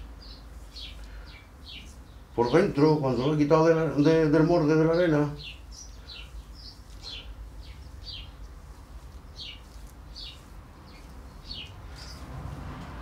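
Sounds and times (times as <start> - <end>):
small bird chirping: 0.0 - 3.4, 4.8 - 12.3.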